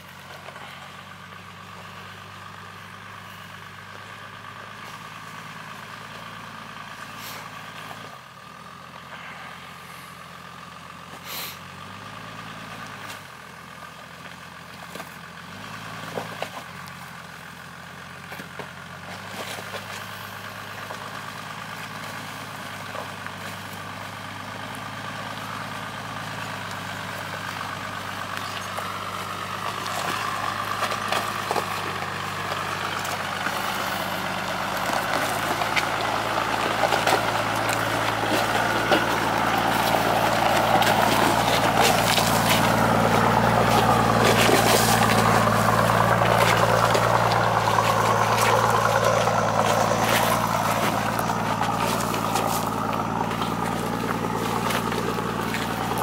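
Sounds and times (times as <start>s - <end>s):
diesel engine running at low revs: 0.0s - 56.0s.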